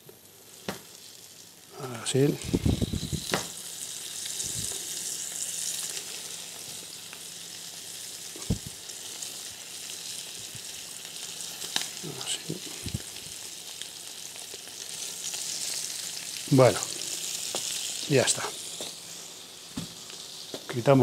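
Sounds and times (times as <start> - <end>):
fish sizzling in a frying pan: 0.2 - 21.0.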